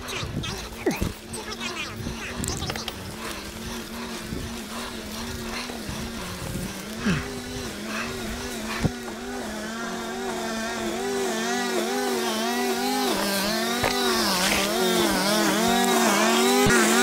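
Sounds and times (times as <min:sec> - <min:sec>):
string trimmer engine running: 0:00.0 - 0:17.0.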